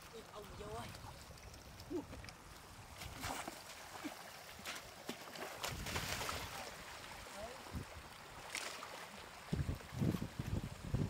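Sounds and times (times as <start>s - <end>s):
shallow water splashing: 0.0s - 10.7s.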